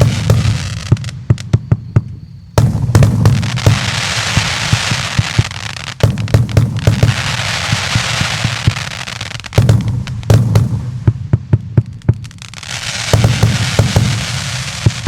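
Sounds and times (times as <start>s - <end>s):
firework bangs: 0.0s - 15.0s
hissing crackle of fireworks: 0.0s - 15.0s.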